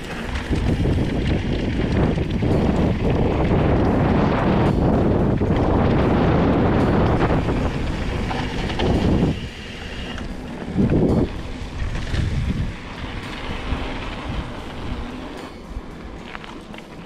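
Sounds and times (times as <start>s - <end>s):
wind buffeting microphone: 0.0s - 16.4s
bike tyres rumbling on dirt: 0.0s - 17.0s.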